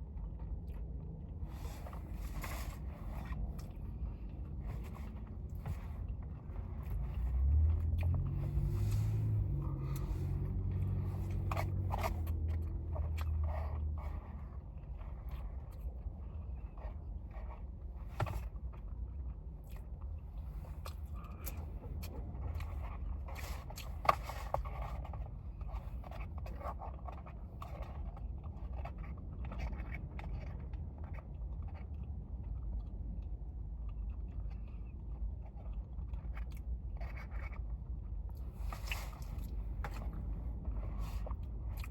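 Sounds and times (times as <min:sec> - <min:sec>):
person chewing food: 0:00.1 - 0:17.7, 0:18.7 - 0:37.7, 0:38.3 - 0:41.9.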